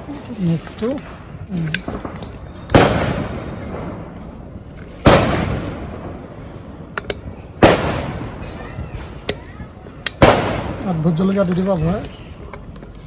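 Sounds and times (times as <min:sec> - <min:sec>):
firecracker bangs echoing: 0:01.0 - 0:12.3.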